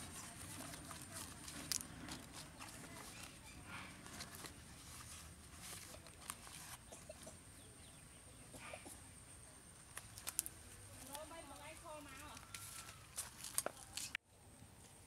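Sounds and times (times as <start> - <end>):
leaves rustling and crinkling: 0.0 - 7.8, 9.6 - 14.2.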